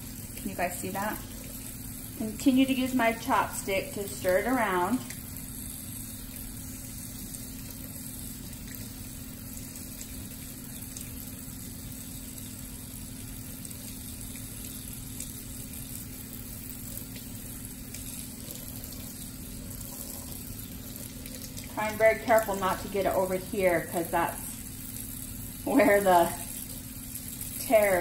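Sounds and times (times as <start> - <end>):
faucet water splashing into sink: 0.1 - 28.0.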